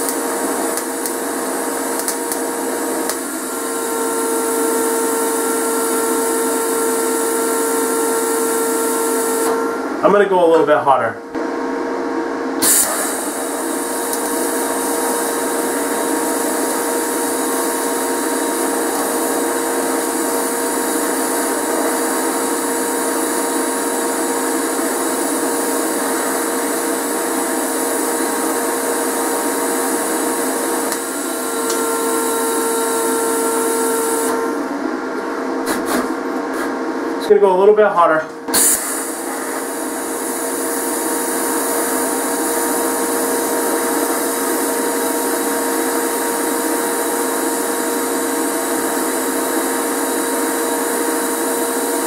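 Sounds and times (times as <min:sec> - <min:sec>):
welding arc hissing: 0:00.0 - 0:09.7, 0:12.6 - 0:34.6, 0:38.5 - 0:52.0
electrical hum: 0:00.0 - 0:52.0.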